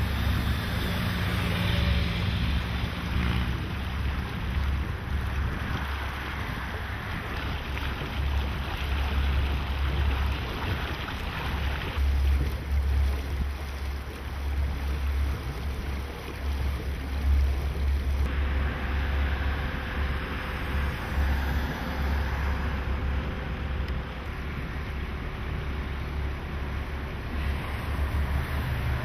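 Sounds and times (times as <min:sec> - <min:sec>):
water rushing hiss: 0:00.0 - 0:29.0
wind buffeting microphone: 0:00.0 - 0:29.0.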